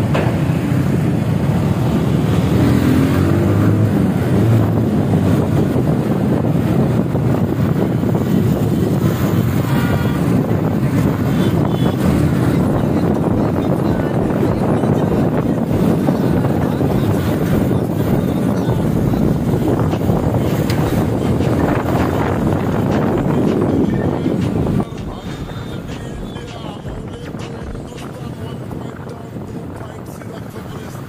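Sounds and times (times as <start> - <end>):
motorcycle engine rumble: 0.0 - 31.0
wind noise on microphone: 0.0 - 31.0.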